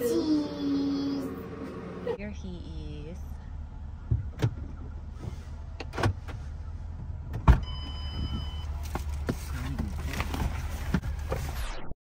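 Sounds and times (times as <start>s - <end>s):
low vehicle hum: 0.0s - 11.6s.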